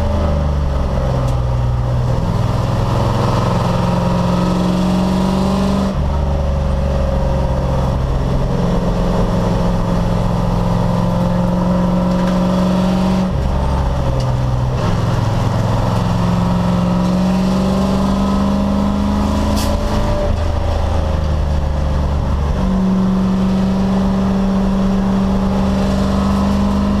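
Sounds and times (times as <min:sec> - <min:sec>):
race car engine running hard: 0:00.0 - 0:27.0.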